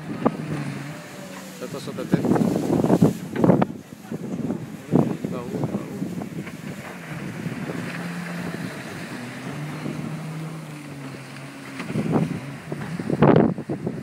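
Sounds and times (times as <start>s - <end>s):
jet ski engine running: 0.0s - 14.0s
wind buffeting microphone: 0.0s - 14.0s.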